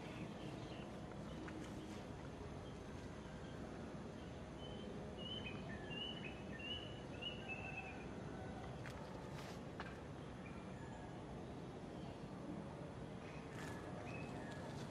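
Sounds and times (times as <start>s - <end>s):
faint outdoor hum: 0.0s - 14.9s.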